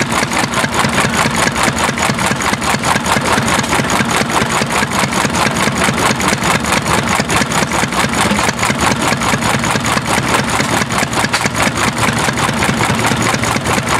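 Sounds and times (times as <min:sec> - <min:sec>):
gas engine running: 0:00.0 - 0:13.9.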